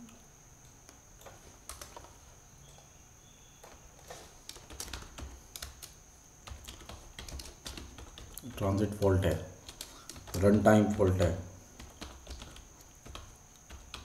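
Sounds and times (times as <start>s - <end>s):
steady high-pitched whine: 0.0s - 14.0s
computer keyboard clicks: 0.6s - 2.1s, 3.6s - 14.0s.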